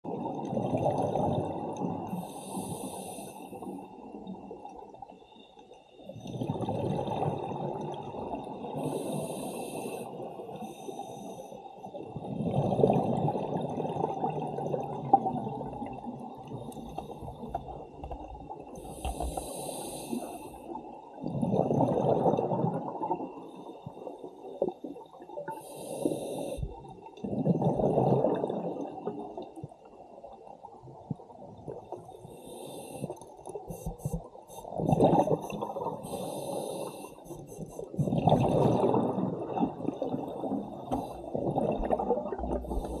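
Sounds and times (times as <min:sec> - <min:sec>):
gurgling bubbles underwater: 0:00.0 - 0:05.1, 0:06.0 - 0:11.2, 0:11.9 - 0:43.0.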